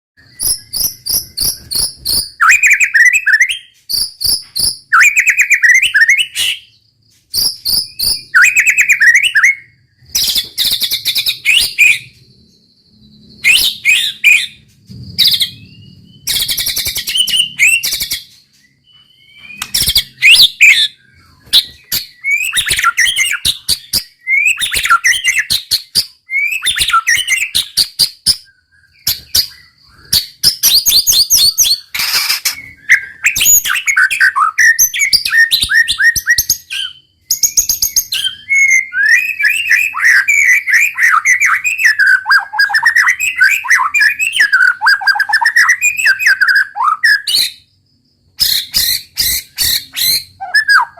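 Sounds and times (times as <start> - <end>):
songbird singing: 0.2 - 50.9.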